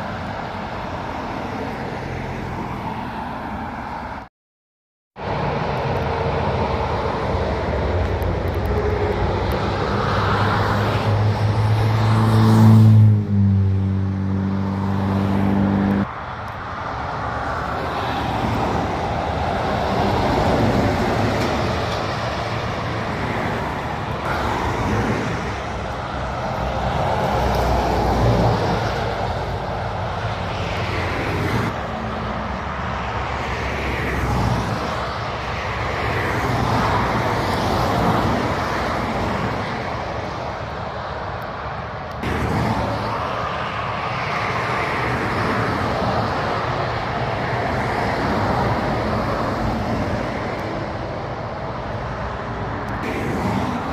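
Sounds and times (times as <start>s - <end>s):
vehicles passing: 0.0s - 4.3s, 5.2s - 53.9s.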